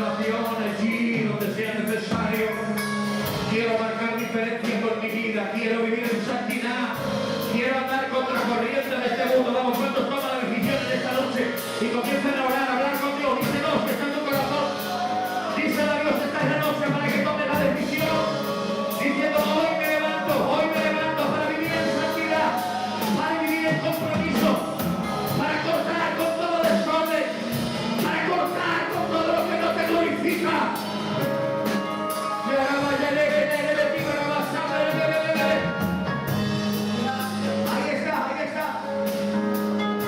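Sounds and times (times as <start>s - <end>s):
worship song singing over band: 0.0s - 39.2s.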